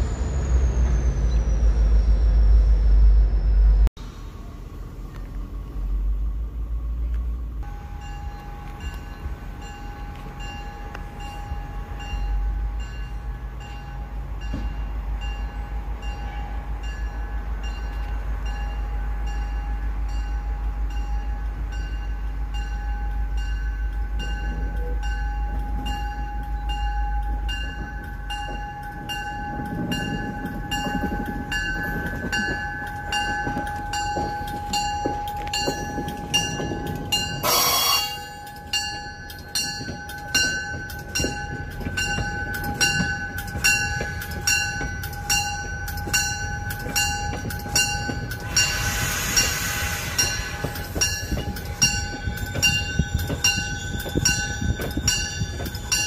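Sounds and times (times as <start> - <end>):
train rumbling: 0.0 - 56.0
warning bell ringing: 7.6 - 48.8, 50.2 - 56.0.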